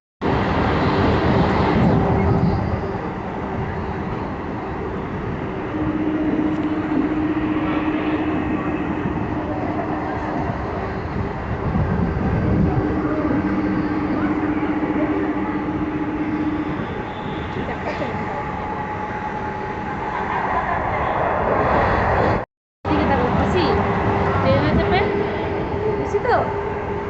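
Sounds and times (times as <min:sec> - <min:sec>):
steady hum: 0:00.2 - 0:27.0
train carriage rumble and rattle: 0:00.2 - 0:27.0.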